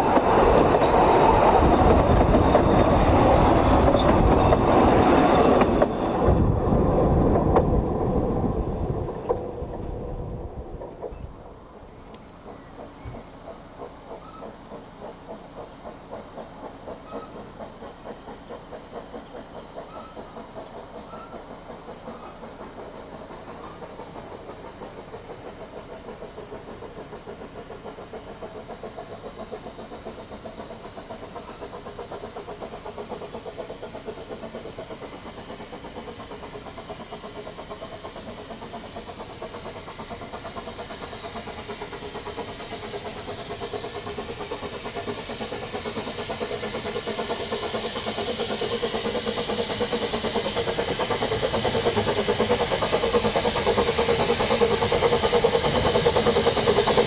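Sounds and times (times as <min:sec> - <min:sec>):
steam locomotive approaching: 0:00.0 - 0:57.0.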